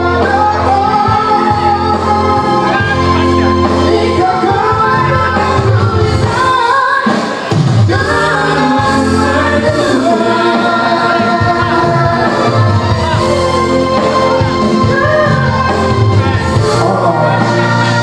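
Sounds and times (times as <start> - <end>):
electronic keyboard accompaniment: 0.0 - 18.0
man and woman singing: 0.0 - 18.0.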